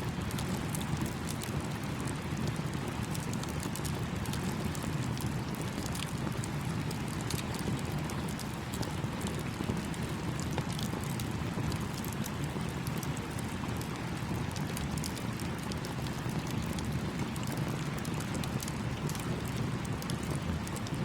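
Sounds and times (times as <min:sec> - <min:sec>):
campfire crackling: 0:00.1 - 0:21.0
flowing stream: 0:00.1 - 0:21.0.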